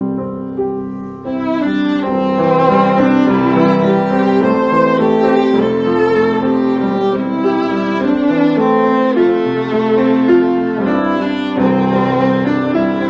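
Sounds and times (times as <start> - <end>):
bowed strings playing: 1.0 - 13.0.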